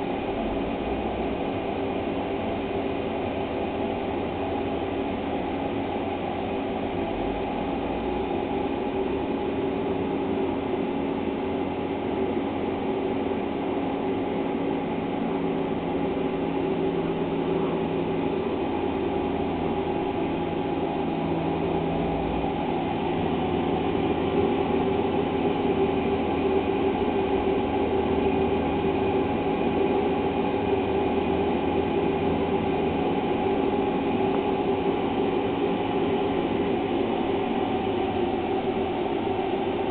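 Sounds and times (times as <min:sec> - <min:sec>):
mechanical drone with held tones: 0:00.0 - 0:39.9.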